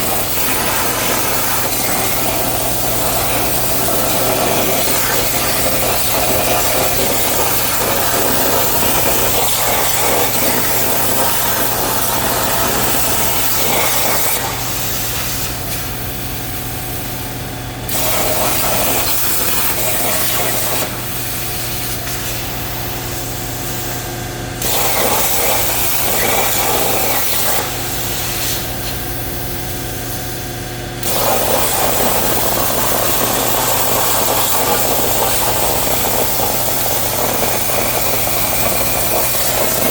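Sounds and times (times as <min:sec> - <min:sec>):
plasma cutter arc hissing: 0:00.0 - 0:30.4, 0:31.0 - 0:39.9
machine hum: 0:00.0 - 0:37.0.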